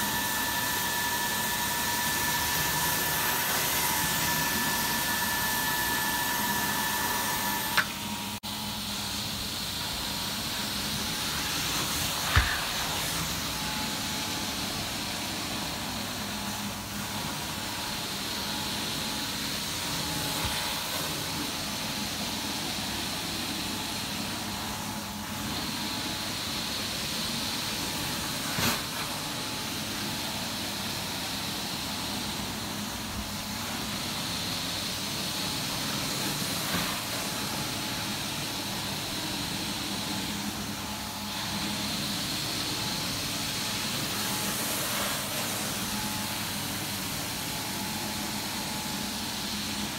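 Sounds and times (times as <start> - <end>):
vacuum suction rushing hiss: 0.0 - 28.8, 29.7 - 49.9.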